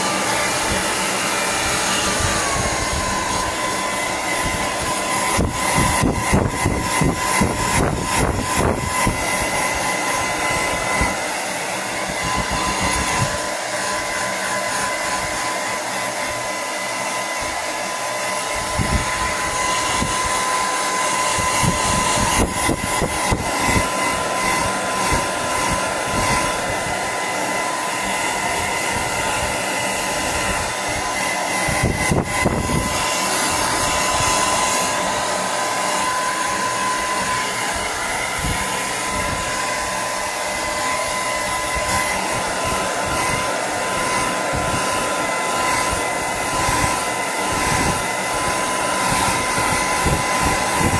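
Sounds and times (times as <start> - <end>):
hair dryer blowing air: 0.0 - 50.9.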